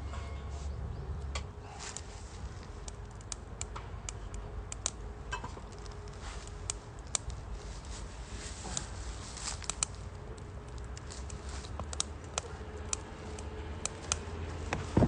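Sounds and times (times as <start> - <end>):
low fire rumble: 0.0 - 15.0
firewood crackling and popping: 1.2 - 15.0.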